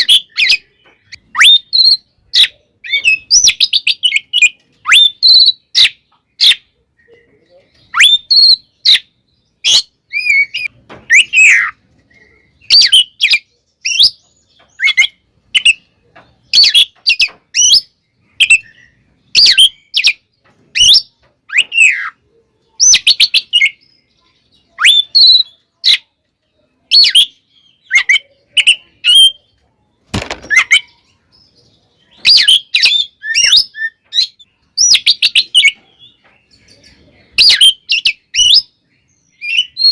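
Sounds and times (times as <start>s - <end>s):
magpie-robin whistled song: 0.0s - 29.6s, 30.4s - 39.9s.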